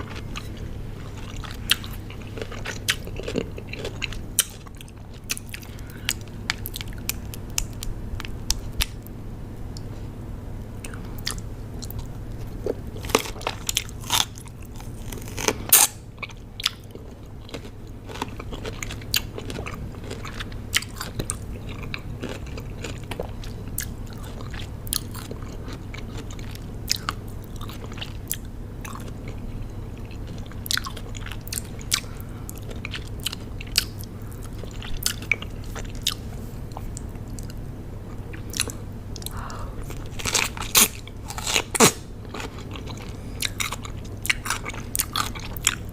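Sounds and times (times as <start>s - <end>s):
biting and chewing cucumber: 0.0s - 9.0s, 10.9s - 45.9s.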